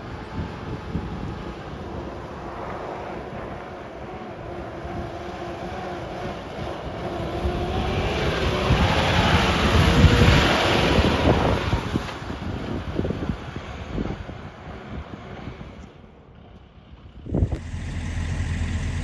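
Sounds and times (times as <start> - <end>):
off-road vehicle driving past: 0.0 - 19.0.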